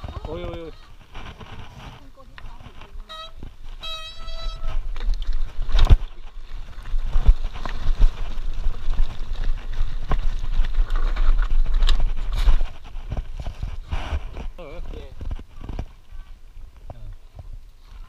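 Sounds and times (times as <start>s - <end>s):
wheels knocking on rocks: 0.0s - 17.6s
bike tyres rumbling on gravel: 0.0s - 18.0s.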